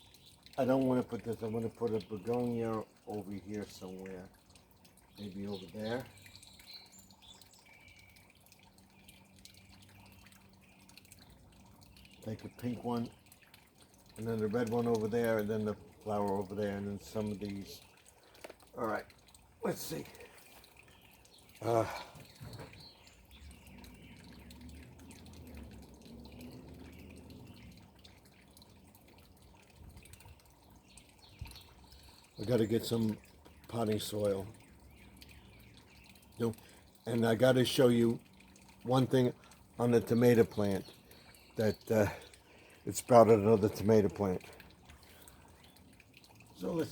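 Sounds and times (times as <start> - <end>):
water dripping: 0.0 - 46.9.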